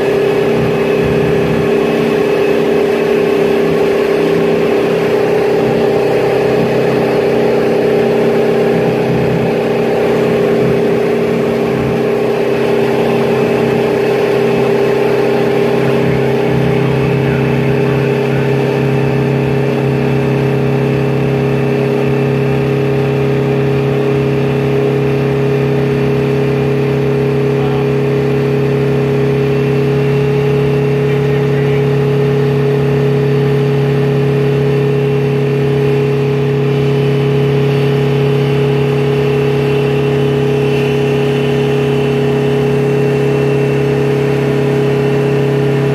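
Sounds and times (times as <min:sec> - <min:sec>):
diesel truck engine under load: 0:00.0 - 0:45.9.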